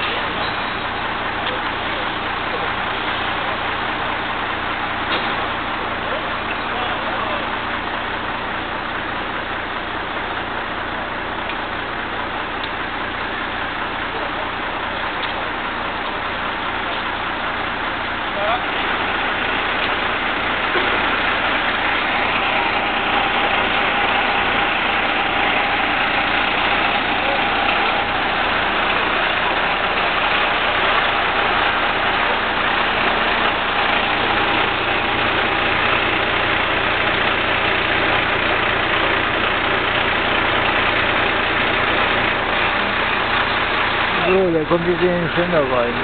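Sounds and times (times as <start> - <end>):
crane engine running: 0.0 - 46.0.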